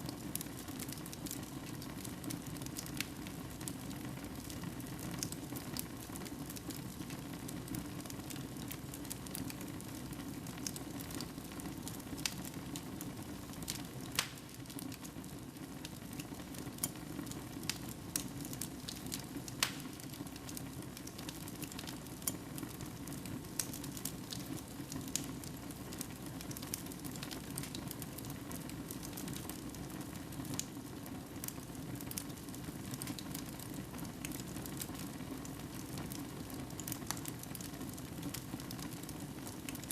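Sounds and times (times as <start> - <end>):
wood fire crackles and pops: 0.0 - 39.9.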